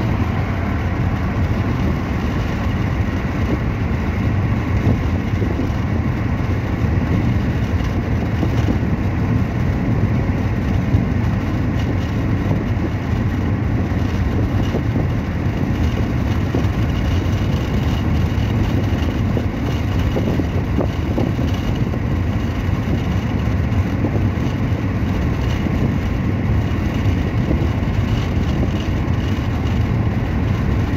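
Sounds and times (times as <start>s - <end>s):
road and engine rumble: 0.0s - 30.9s.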